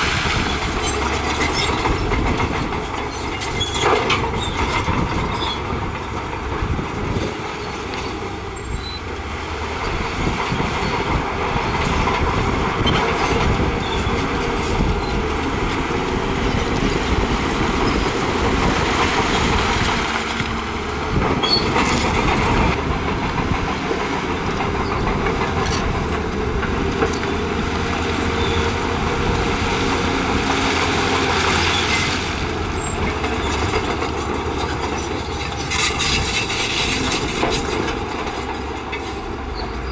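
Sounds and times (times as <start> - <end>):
bulldozer diesel engine under load: 0.0 - 39.9
steel tracks clanking: 0.0 - 39.9.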